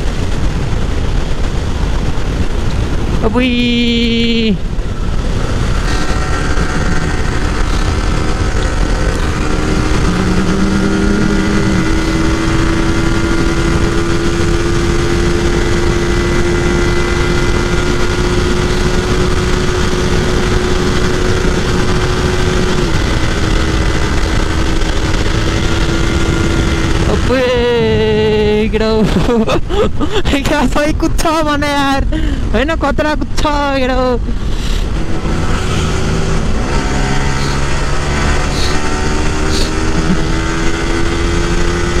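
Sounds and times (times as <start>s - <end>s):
motorcycle engine at high revs: 0.0s - 28.5s, 33.4s - 42.0s
lower engine note: 0.0s - 28.8s, 31.6s - 42.0s
wind rush: 0.0s - 42.0s.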